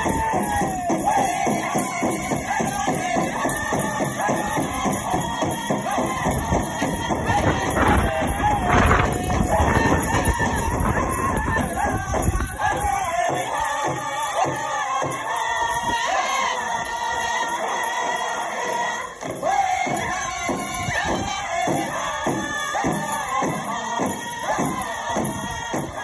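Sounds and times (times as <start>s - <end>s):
group of singers: 0.0s - 26.0s
steady drumbeat: 0.0s - 26.0s.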